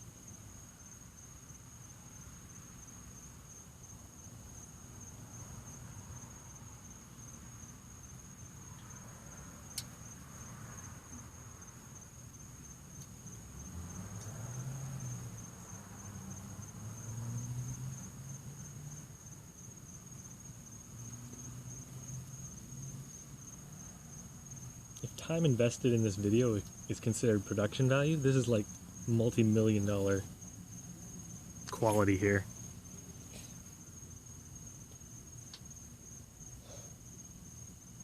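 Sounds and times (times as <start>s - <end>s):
cricket chirping: 0.0s - 38.0s.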